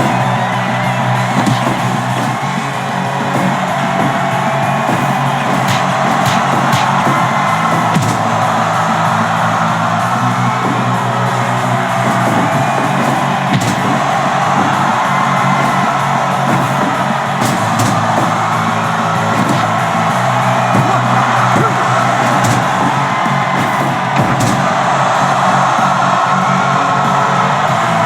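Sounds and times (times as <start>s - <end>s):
sharp knocks: 0.0s - 24.8s
loud music: 0.0s - 28.0s.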